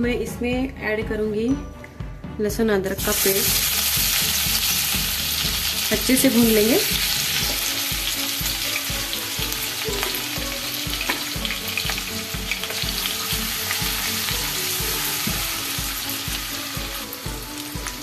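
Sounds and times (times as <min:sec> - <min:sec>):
paste frying in hot oil: 0:03.0 - 0:18.0.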